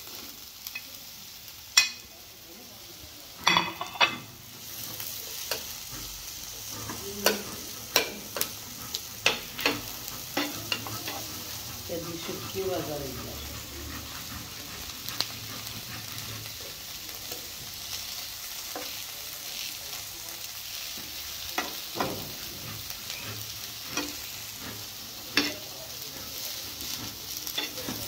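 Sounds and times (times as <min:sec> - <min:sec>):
food sizzling in oil: 0:00.0 - 0:28.0.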